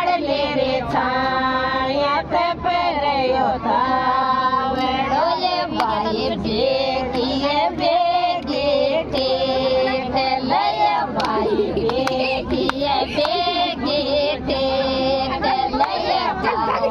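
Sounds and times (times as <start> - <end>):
women singing folk song: 0.0 - 16.9.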